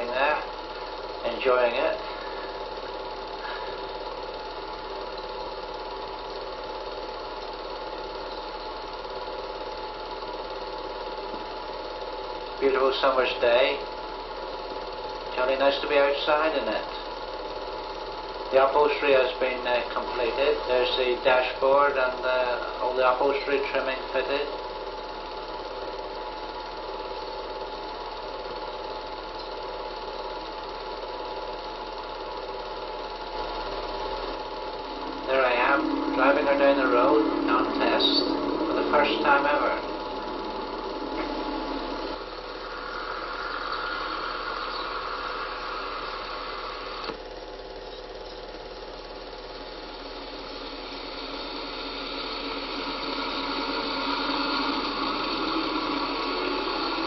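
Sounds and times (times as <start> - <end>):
film projector whirring: 0.0 - 57.0
low mains hum: 0.0 - 57.0.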